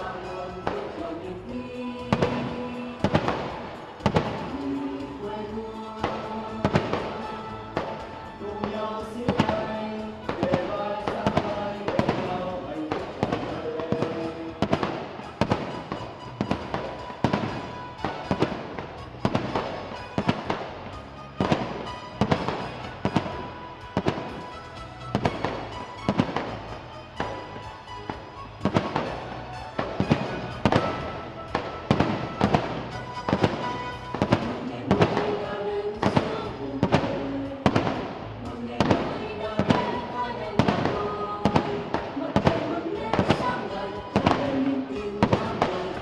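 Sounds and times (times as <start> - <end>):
background music: 0.0 - 46.0
fireworks bursting bangs: 0.0 - 46.0.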